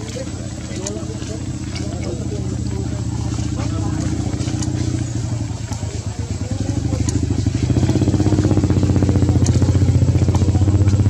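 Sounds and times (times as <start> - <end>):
small engine pulsing: 0.0 - 11.0.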